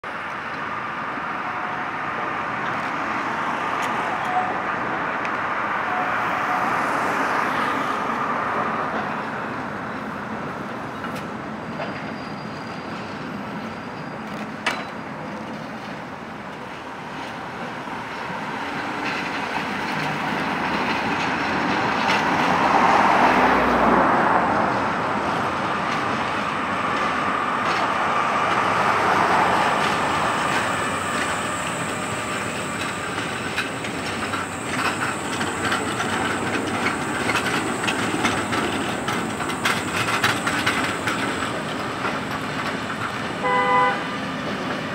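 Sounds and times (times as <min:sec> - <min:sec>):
road traffic passing: 0:00.0 - 0:44.9
trams rolling on tracks: 0:00.1 - 0:44.9.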